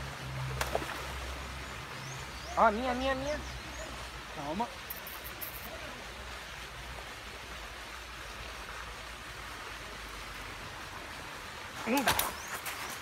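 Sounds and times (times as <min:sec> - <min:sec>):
falling splashing water: 0:00.0 - 0:13.0.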